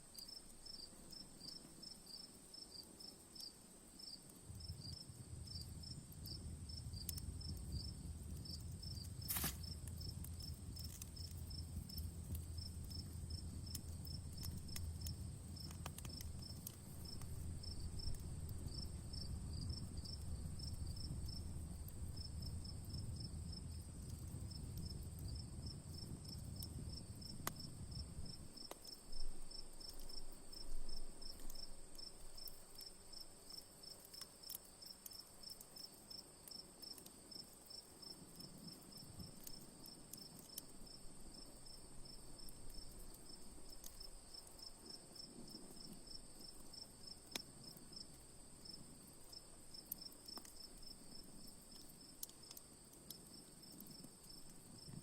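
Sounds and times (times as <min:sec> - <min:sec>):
campfire crackling: 0:00.1 - 0:55.0.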